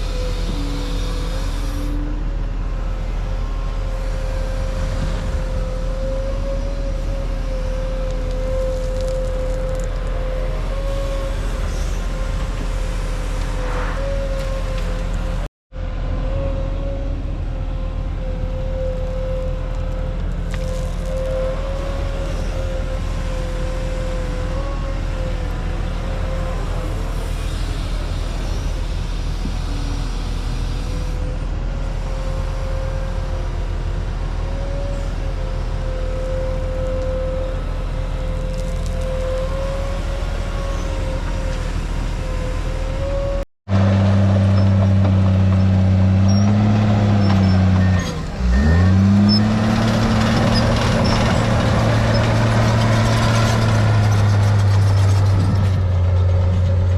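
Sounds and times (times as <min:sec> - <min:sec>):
heavy diesel engine with whine: 0:00.0 - 0:56.9.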